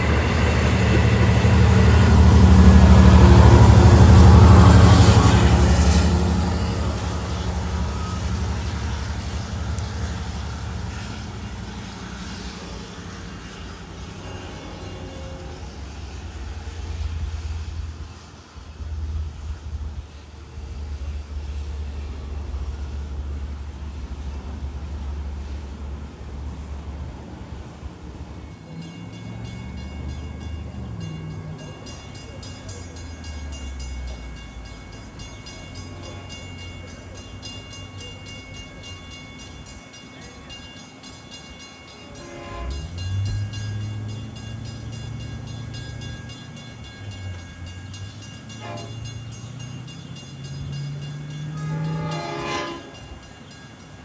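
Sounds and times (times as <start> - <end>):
diesel train engine running: 0.0 - 54.0.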